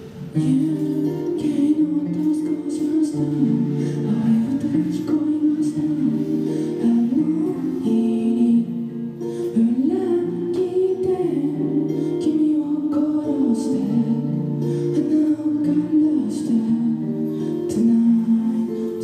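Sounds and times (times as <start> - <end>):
acoustic guitar: 0.0 - 19.0
person singing: 0.0 - 19.0.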